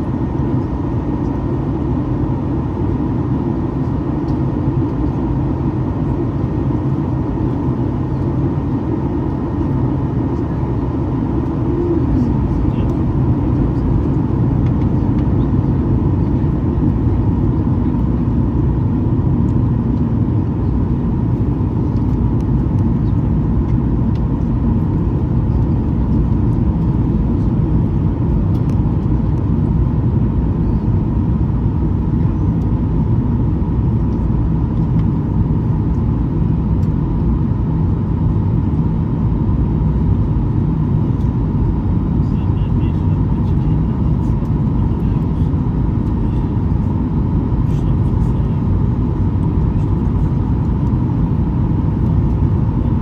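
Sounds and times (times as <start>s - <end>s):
jet engine and airflow rumble: 0.0s - 53.0s.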